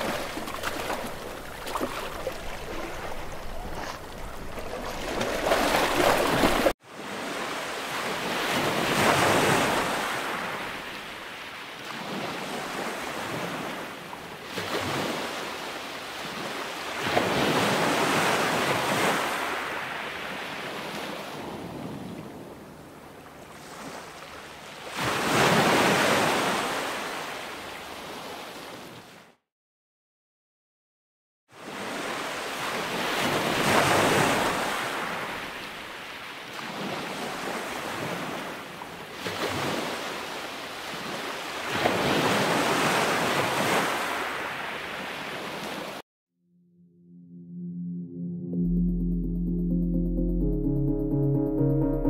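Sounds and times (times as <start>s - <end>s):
sea waves breaking: 0.0s - 29.0s, 31.6s - 46.0s.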